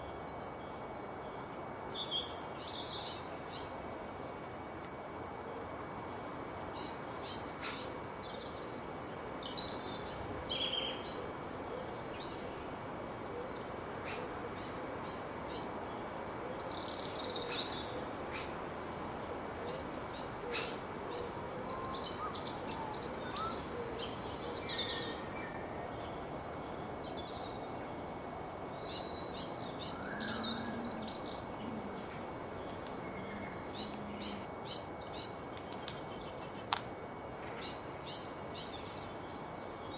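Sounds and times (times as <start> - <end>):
background hiss: 0.0 - 39.9
birds chirping and trilling: 4.9 - 39.9.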